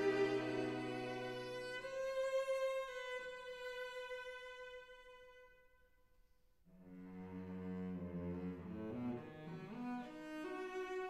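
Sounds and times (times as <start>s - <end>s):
slow bowed string melody: 0.0s - 5.6s, 6.8s - 11.0s.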